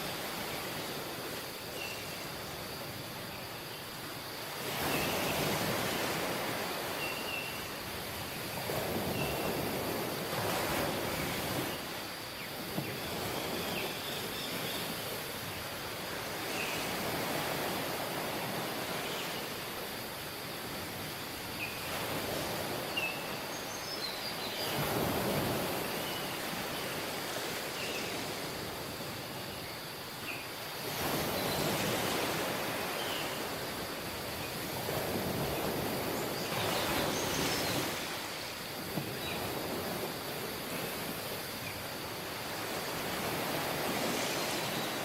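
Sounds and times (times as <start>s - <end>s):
waves washing on beach: 0.0s - 45.0s.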